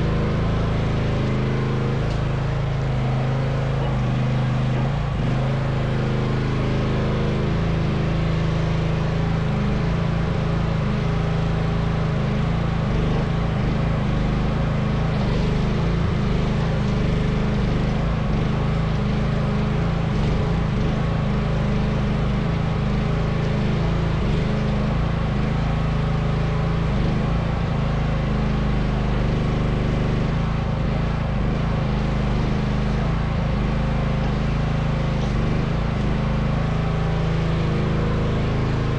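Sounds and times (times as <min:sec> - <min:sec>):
mini excavator engine running: 0:00.0 - 0:38.9.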